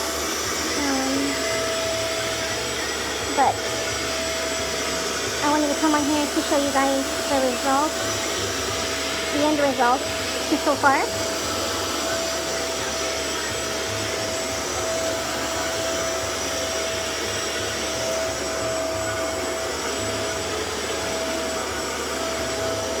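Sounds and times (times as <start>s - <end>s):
carpet cleaner motor whirring: 0.0s - 23.0s.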